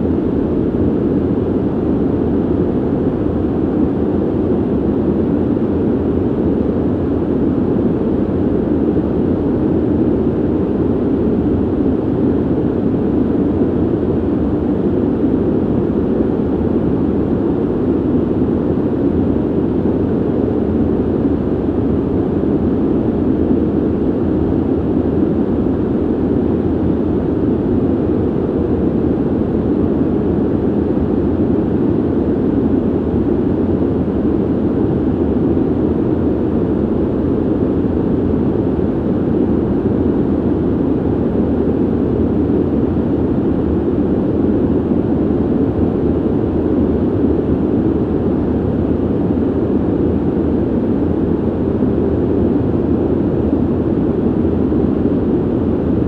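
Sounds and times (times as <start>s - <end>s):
ventilation air rushing hum: 0.0s - 56.0s.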